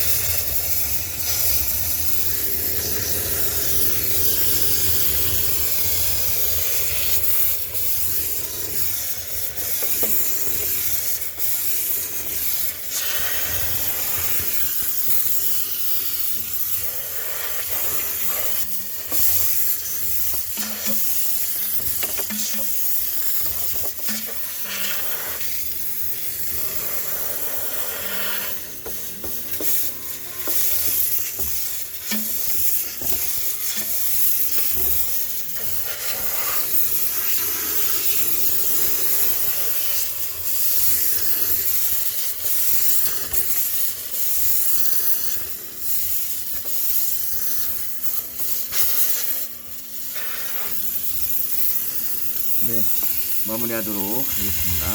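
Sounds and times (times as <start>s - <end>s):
steam cleaner hissing: 0.0s - 54.9s.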